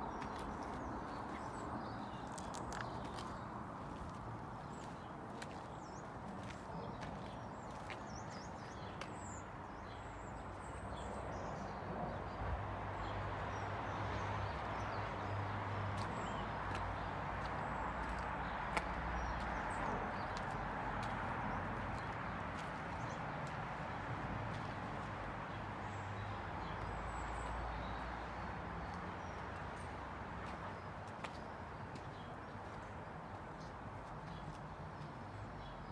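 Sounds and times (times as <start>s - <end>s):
outdoor background noise: 0.0s - 35.9s.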